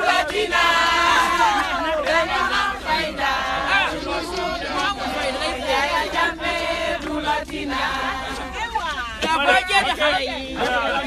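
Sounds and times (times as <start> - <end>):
crowd singing and chanting: 0.0 - 11.0.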